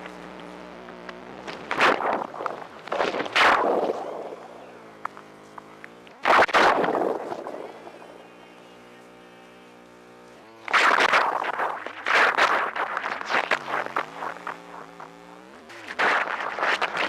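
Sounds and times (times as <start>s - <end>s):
buzzing ring-modulated tones: 0.0s - 17.0s
crackling distorted noise bursts: 0.0s - 17.0s.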